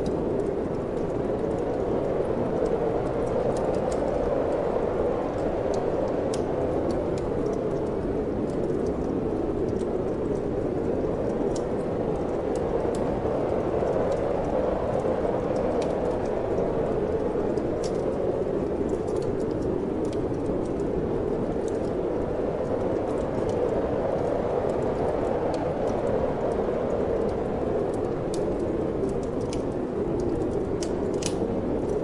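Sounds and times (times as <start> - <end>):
wind blowing: 0.0 - 32.0
wood fire crackling: 0.0 - 32.0.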